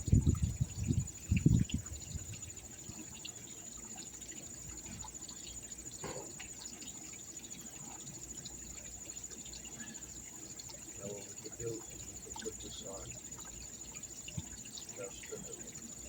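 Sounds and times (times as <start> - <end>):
faint trickling water: 0.0 - 16.0
insects chirring: 0.0 - 16.0.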